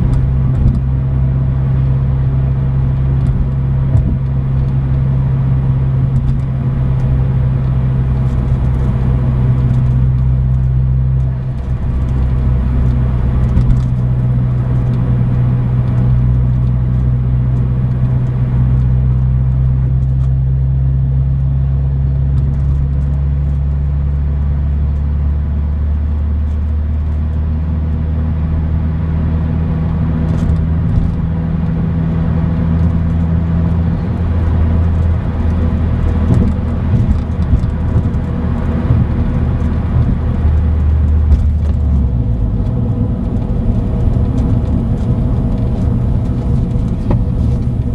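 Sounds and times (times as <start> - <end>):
car exhaust drone in cabin: 0.0 - 47.9.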